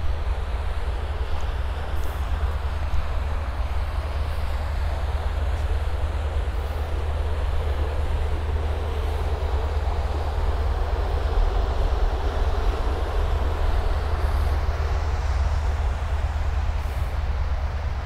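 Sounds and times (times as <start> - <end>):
traffic: 0.0 - 18.0
wind buffeting microphone: 0.0 - 18.0.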